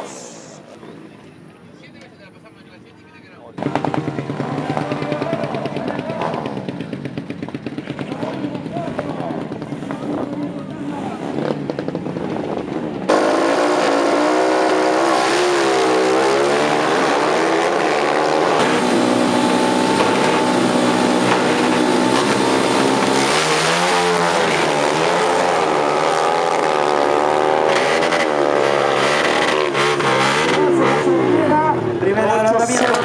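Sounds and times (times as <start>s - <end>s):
motorcycle engine revving: 3.6s - 33.0s.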